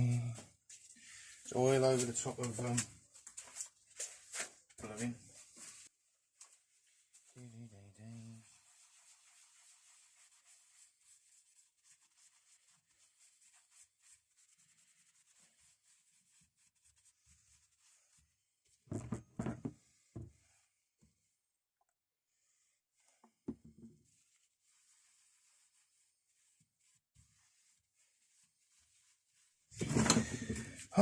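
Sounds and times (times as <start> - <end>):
cloth rubbing on metal: 0.0 - 21.4, 22.4 - 31.0.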